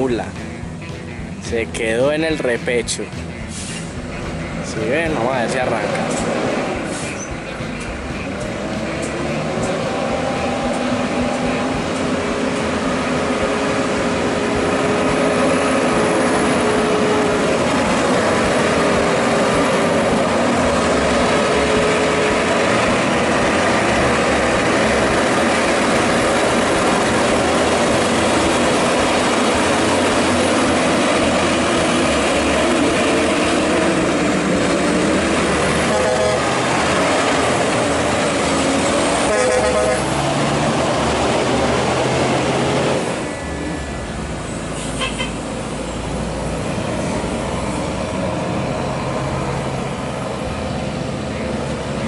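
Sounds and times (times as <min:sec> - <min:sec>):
truck diesel engines straining: 0:00.0 - 0:52.0.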